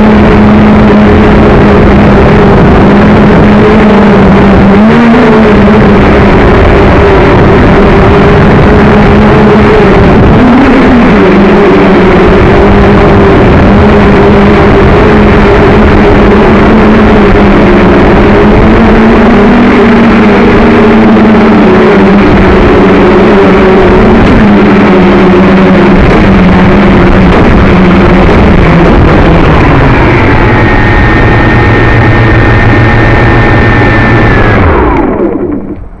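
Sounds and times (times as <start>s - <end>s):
drone motors and propellers: 0.0s - 36.0s
thin high whine: 0.0s - 36.0s.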